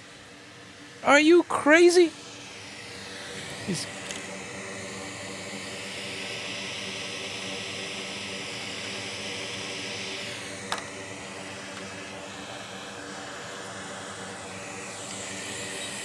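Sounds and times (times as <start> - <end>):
fan hum: 0.0 - 16.0
hot air blower hissing: 0.0 - 16.0.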